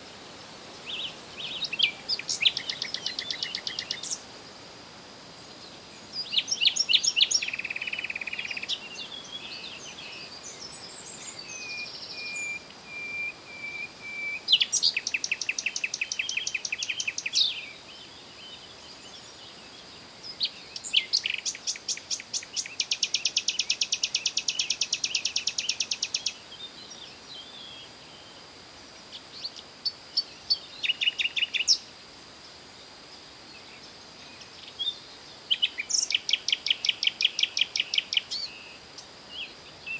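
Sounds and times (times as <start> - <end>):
songbirds chirping and trilling: 0.0 - 4.3, 5.2 - 39.9.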